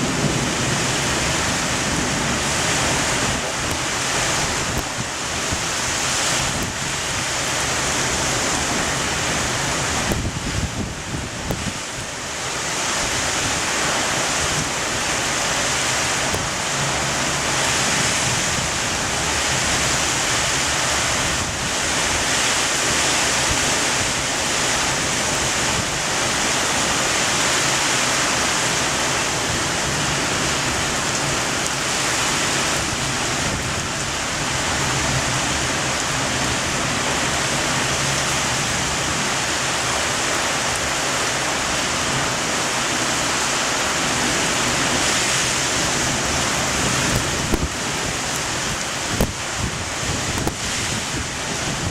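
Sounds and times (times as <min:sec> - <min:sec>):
heavy rain with wind: 0:00.0 - 0:51.9.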